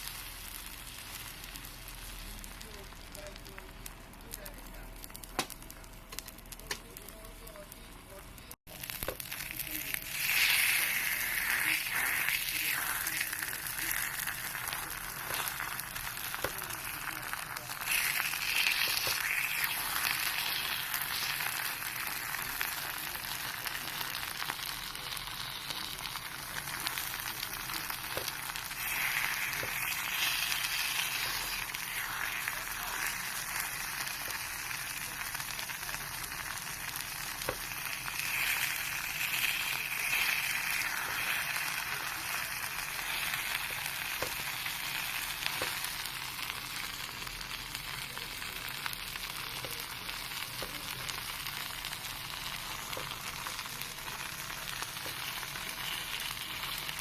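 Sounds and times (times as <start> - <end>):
batter sizzling in a pan: 0.0 - 57.0.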